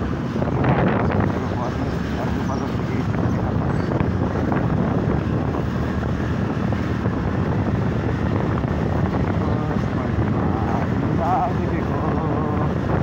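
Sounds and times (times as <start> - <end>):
motorcycle running: 0.0 - 13.0
road noise: 0.0 - 13.0
wind buffeting microphone: 0.0 - 13.0.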